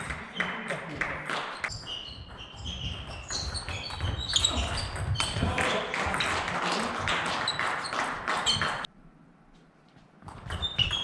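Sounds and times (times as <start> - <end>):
sports hall hum: 0.0 - 11.0.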